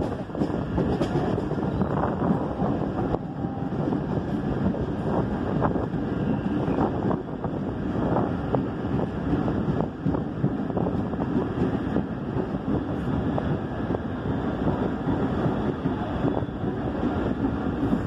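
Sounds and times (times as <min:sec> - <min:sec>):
train wheels rumbling on rails: 0:00.0 - 0:18.0
wind buffeting microphone: 0:00.0 - 0:18.0.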